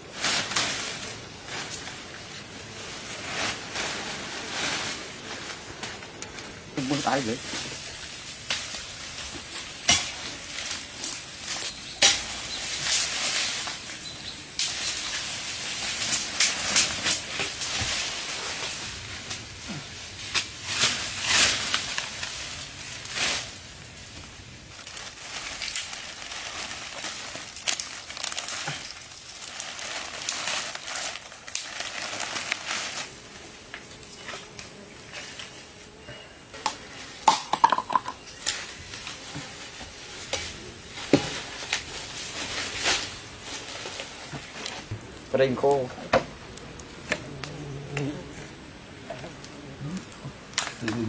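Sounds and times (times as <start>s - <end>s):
leaves rustling: 0.0s - 51.0s.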